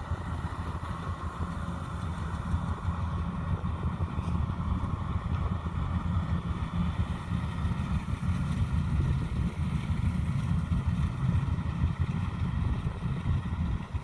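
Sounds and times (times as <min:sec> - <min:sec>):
combine harvester diesel engine: 0:00.0 - 0:14.0.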